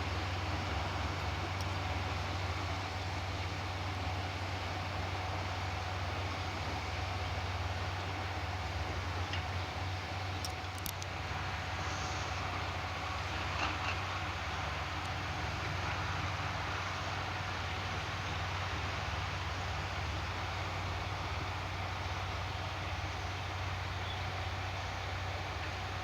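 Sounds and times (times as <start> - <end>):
diesel engines droning: 0.0 - 26.0.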